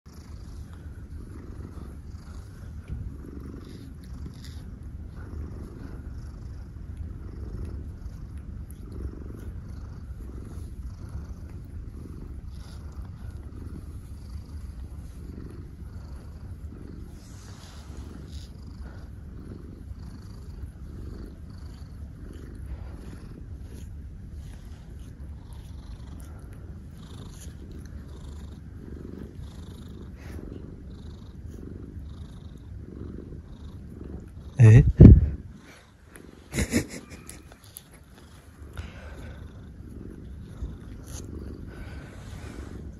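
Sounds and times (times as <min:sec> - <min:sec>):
cat purring: 0:00.0 - 0:42.9
cat tongue licking fur: 0:00.3 - 0:32.0, 0:36.1 - 0:42.9.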